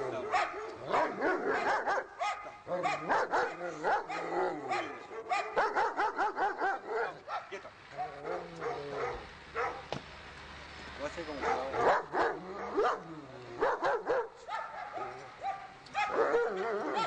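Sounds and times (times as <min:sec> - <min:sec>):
dog barking excitedly: 0:00.0 - 0:09.9, 0:11.4 - 0:13.0, 0:13.6 - 0:17.0.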